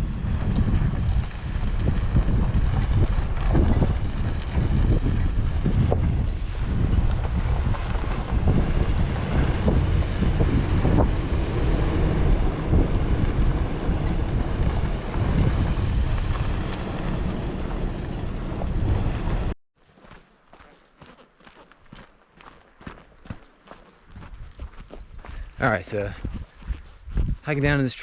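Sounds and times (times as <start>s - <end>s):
wind buffeting microphone: 0.0s - 19.6s, 24.1s - 27.9s.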